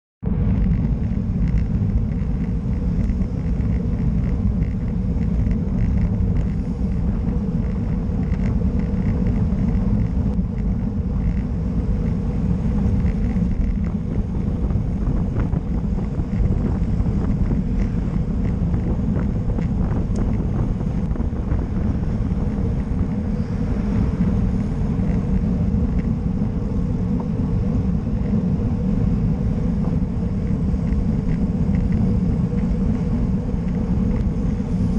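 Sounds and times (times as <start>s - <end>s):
heavy wind rumble on microphone: 0.2s - 34.9s.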